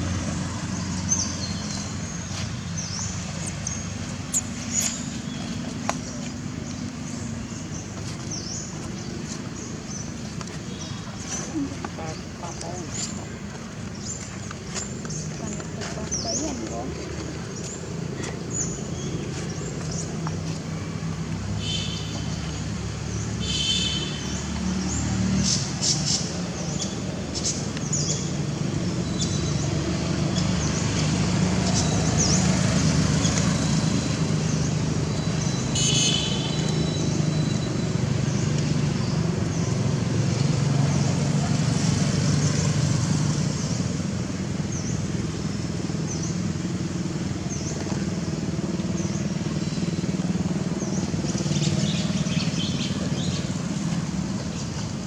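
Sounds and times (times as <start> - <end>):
vehicle engines running: 0.0 - 55.0.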